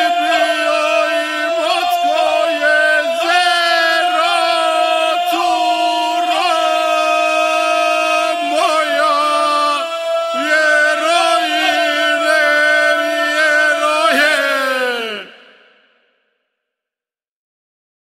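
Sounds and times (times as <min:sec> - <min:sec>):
folk singing in close harmony: 0:00.0 - 0:15.3.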